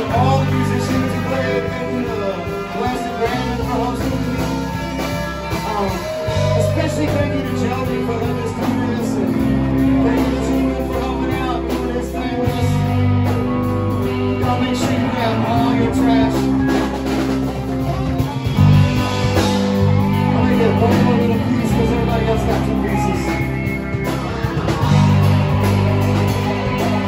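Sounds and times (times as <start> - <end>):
live rock and blues band: 0.0 - 27.0.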